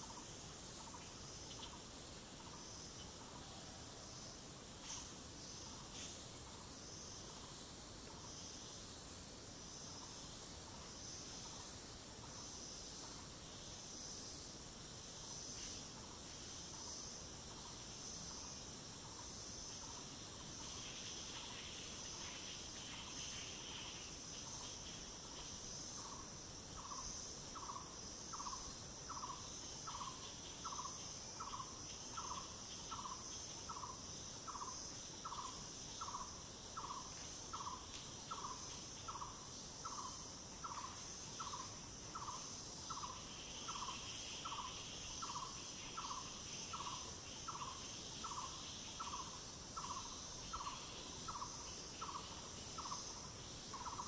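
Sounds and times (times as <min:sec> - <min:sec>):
insects pulsing chorus: 0:00.0 - 0:54.0.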